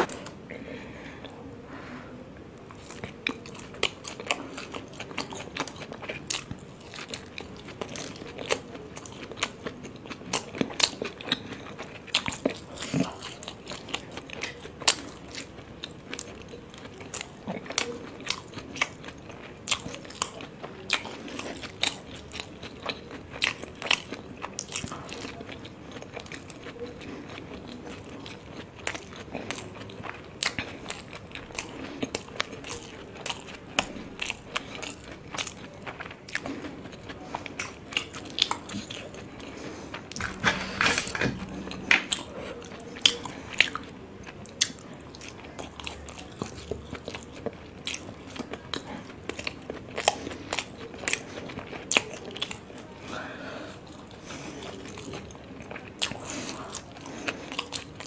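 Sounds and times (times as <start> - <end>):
chewing with mouth clicks: 2.5 - 58.0.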